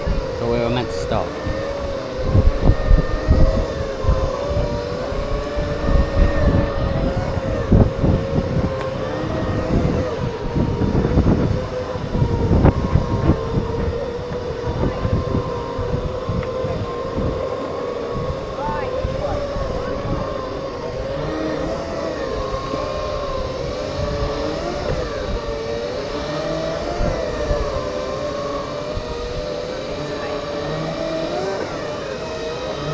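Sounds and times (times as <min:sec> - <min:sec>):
electric drive whining: 0:00.0 - 0:32.9
wind rumble on microphone: 0:00.0 - 0:32.9.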